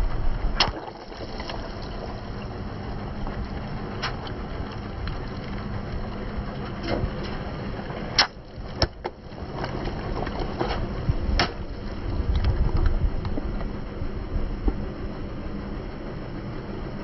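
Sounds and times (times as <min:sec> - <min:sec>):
low rumble of rolling car: 0:00.0 - 0:17.0.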